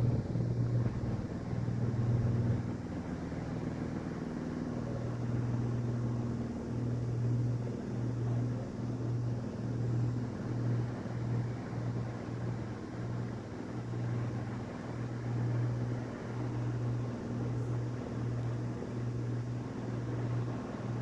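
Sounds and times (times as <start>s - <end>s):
electric fan humming: 0.0s - 21.0s.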